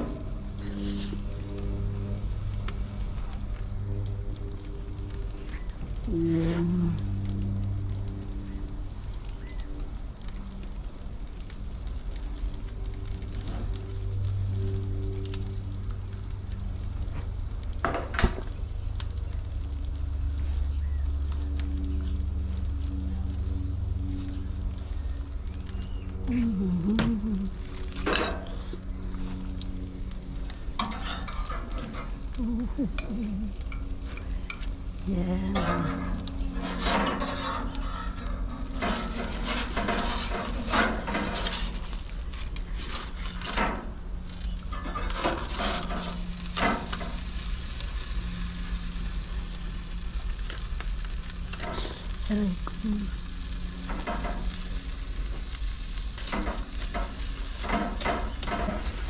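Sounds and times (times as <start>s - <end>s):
food sizzling on a grill: 0.0s - 59.0s
low hum: 0.0s - 59.0s.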